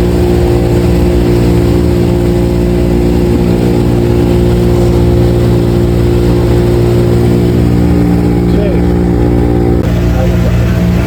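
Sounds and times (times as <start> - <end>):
rushing water noise: 0.0 - 11.0
speedboat engine humming: 0.0 - 11.0.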